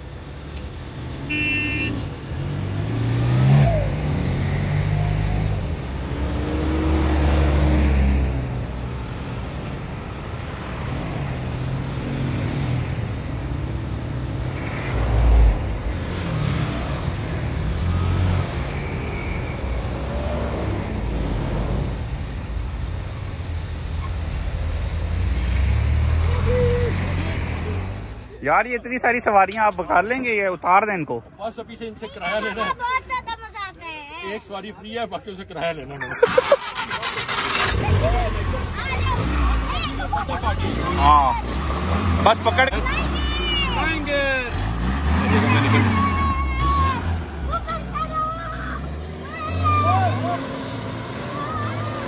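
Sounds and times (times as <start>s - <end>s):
engines revving: 0.0s - 28.4s, 36.1s - 52.0s
off-road vehicles driving past: 0.0s - 52.0s.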